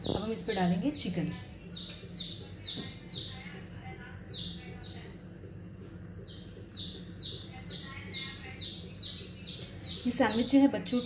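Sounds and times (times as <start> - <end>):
small bird chirping: 0.0 - 5.2, 6.2 - 11.0.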